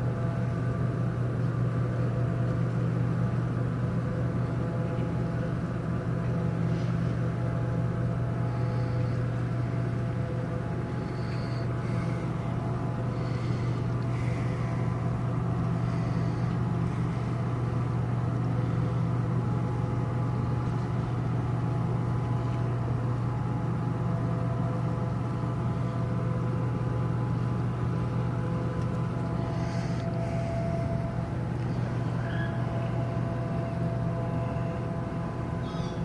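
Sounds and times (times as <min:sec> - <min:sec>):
ship engines humming: 0:00.0 - 0:36.0.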